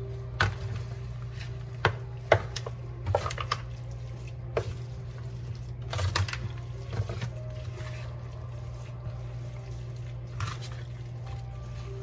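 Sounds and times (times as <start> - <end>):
spatula squishing moist dressing: 0.0 - 12.0.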